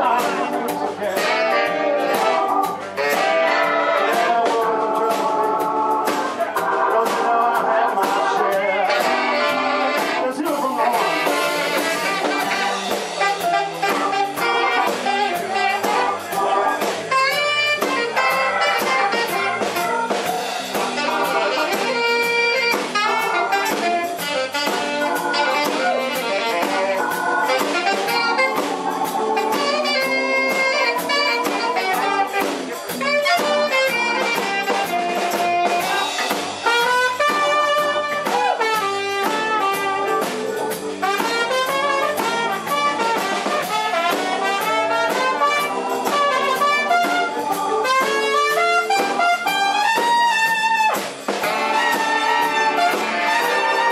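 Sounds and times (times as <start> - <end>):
drums: 0.0 - 53.9
electric bass guitar: 0.0 - 53.9
wind instrument lead line: 0.0 - 53.9.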